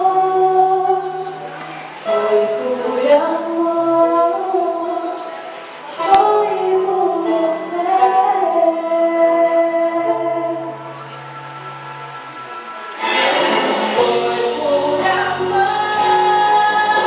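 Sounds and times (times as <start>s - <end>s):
woman singing slow song: 0.0s - 11.2s, 14.0s - 17.0s
sustained instrumental backing: 0.0s - 17.0s.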